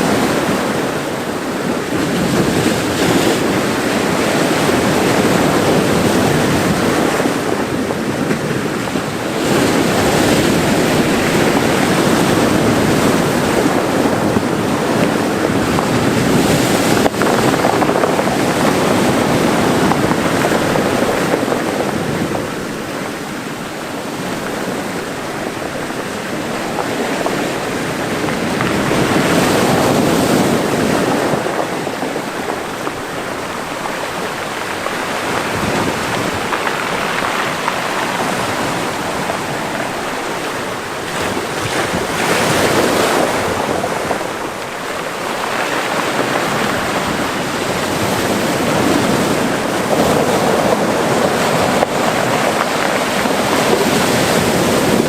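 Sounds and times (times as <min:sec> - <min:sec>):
waves washing into cove: 0:00.0 - 0:55.0.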